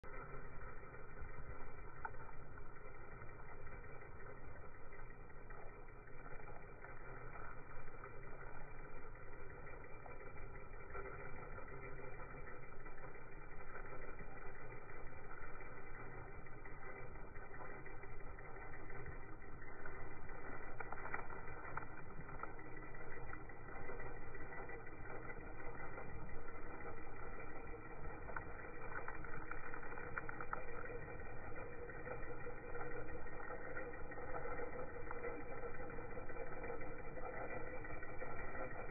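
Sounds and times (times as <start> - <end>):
toy truck motor humming: 0.0 - 38.9.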